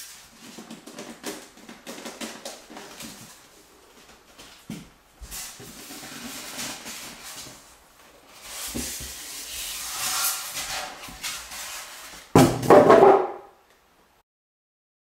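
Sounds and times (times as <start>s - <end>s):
foam and cardboard rustling: 0.0s - 13.2s.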